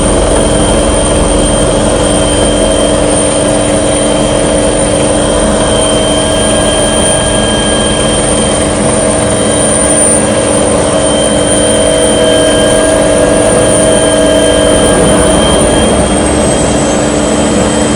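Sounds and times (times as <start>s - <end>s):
small aircraft engine droning: 0.0s - 17.9s.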